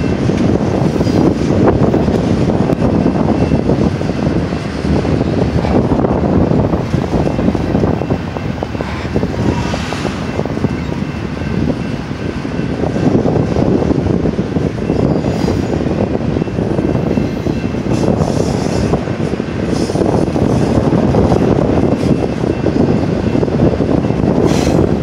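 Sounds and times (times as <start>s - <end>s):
freight train rumbling past: 0.0s - 25.0s
steel wheels clattering on rails: 0.0s - 25.0s.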